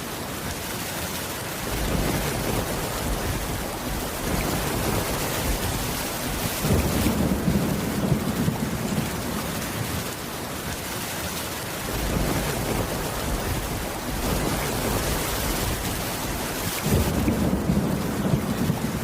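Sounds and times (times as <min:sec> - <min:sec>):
heavy rain: 0:00.0 - 0:19.0
low thunder rumble: 0:01.6 - 0:10.0, 0:11.8 - 0:19.0.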